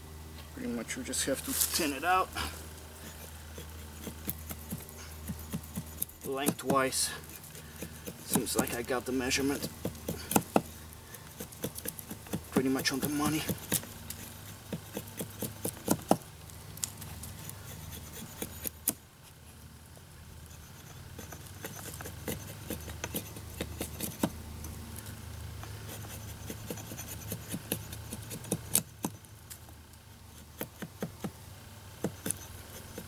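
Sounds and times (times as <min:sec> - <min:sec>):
steady low hum: 0:00.0 - 0:33.0
axe scraping wood: 0:01.4 - 0:16.2, 0:16.8 - 0:19.5, 0:20.5 - 0:24.4, 0:25.6 - 0:29.3, 0:30.3 - 0:31.4, 0:32.0 - 0:33.0.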